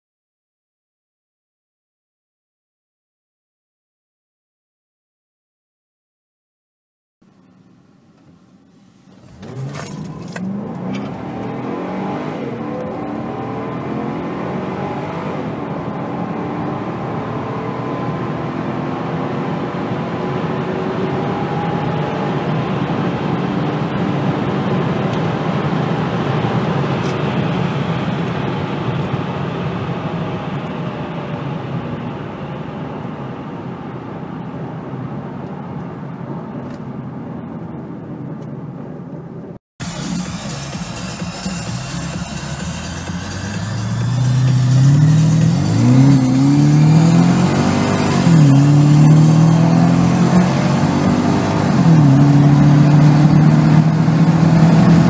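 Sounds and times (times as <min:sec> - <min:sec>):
car engine accelerating: 0:08.7 - 0:38.7, 0:39.8 - 0:55.0.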